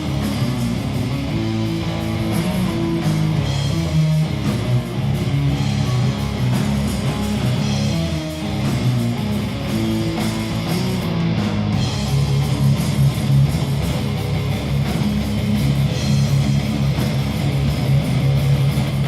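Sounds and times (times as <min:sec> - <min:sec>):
bass guitar: 0:00.0 - 0:19.0
drums: 0:00.0 - 0:19.0
electric guitar: 0:00.0 - 0:19.0.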